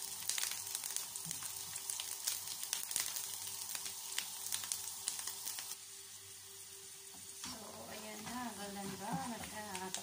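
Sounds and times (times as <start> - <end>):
almonds sizzling and crackling in oil: 0.0 - 10.0.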